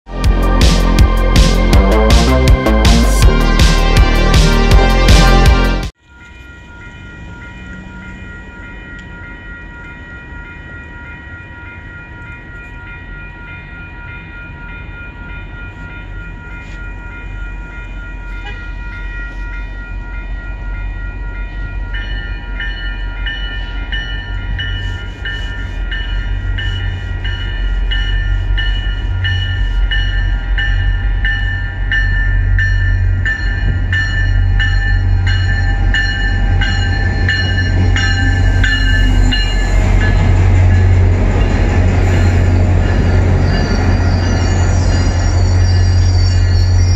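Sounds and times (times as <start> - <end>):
diesel locomotive engine rumble: 0.1 - 46.9
locomotive bell ringing: 3.2 - 46.9.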